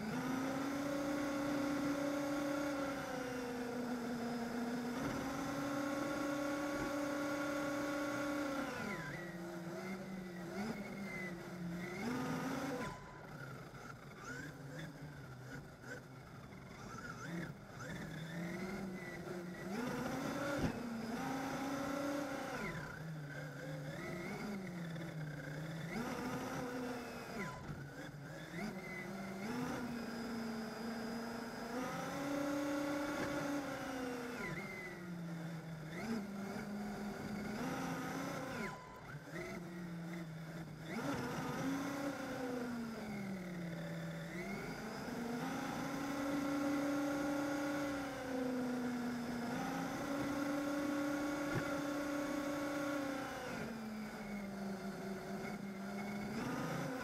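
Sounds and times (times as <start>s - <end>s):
rc car motor whine: 0.0s - 57.0s.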